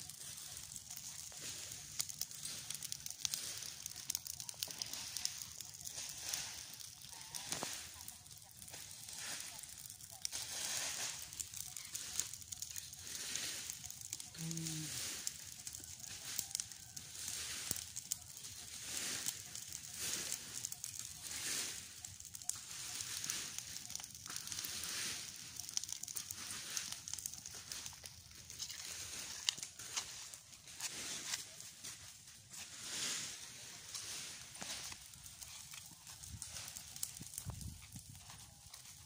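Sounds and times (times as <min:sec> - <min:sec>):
dry leaves crackling in fire: 0:00.0 - 0:39.0
fire hissing: 0:00.0 - 0:39.0.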